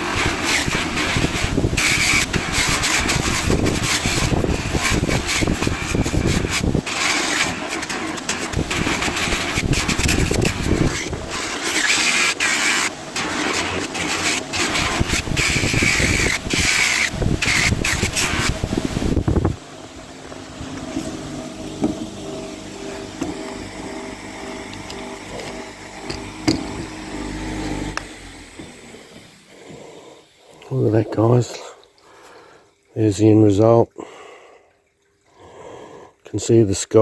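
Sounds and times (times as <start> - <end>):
electric buffer motor whining: 0.0 - 30.6.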